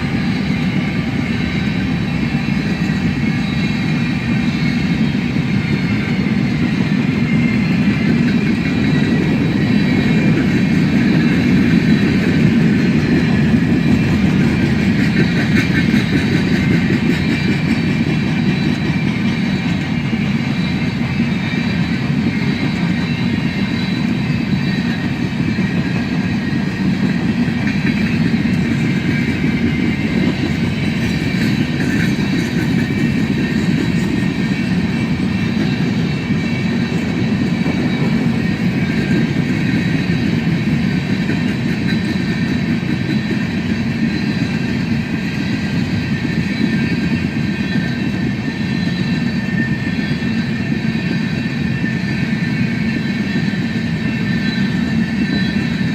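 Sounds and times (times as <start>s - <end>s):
high wheel squealing: 0.0s - 55.9s
train wheels rumbling on rails: 0.0s - 55.9s.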